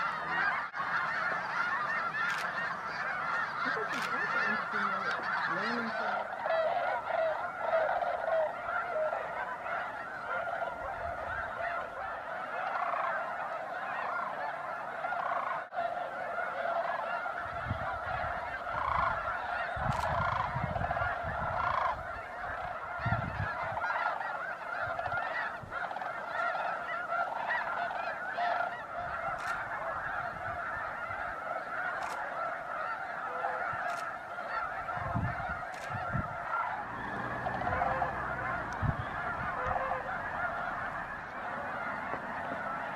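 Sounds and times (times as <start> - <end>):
flock of geese honking: 0.0 - 42.9.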